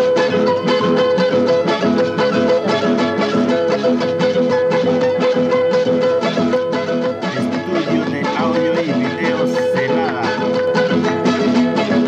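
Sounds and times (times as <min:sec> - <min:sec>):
instrumental folk music: 0:00.0 - 0:12.0.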